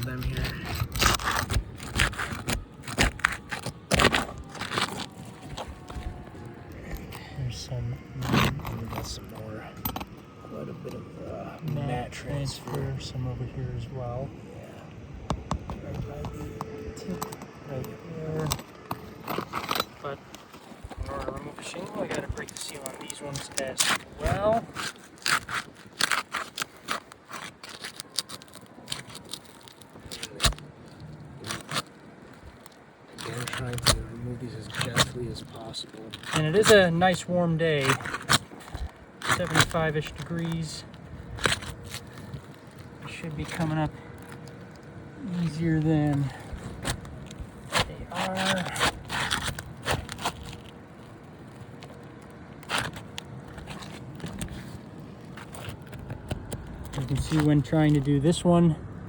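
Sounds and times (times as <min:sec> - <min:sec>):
roof shingles crackling and scraping: 0:00.0 - 0:59.0.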